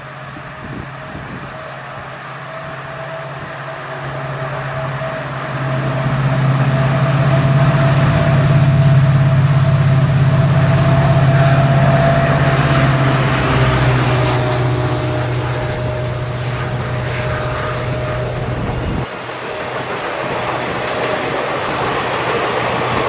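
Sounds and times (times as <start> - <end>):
diesel train engine drone: 0.0 - 23.0
thin whine: 0.0 - 23.0.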